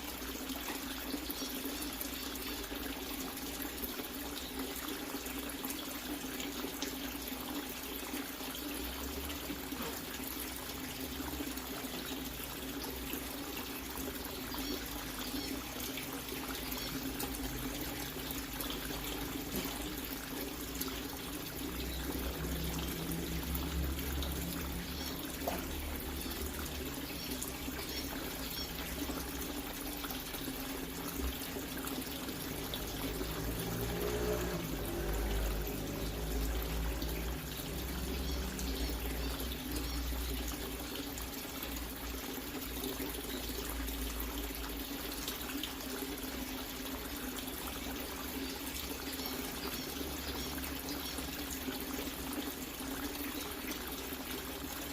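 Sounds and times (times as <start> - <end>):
water trickling into water: 0.0 - 54.9.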